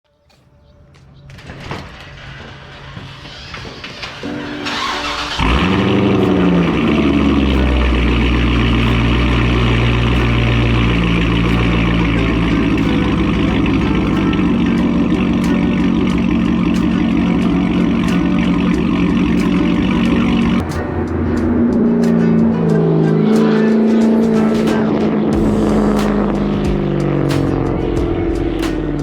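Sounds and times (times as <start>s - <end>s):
car engine running: 4.7s - 29.0s.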